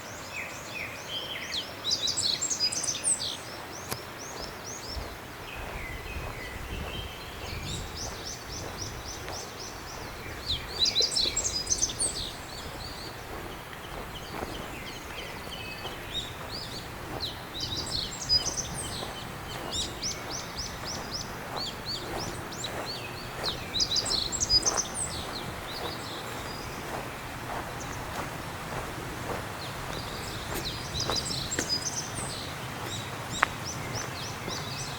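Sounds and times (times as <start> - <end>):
songbirds chirping: 0.0 - 34.9
soft footsteps: 3.8 - 34.9.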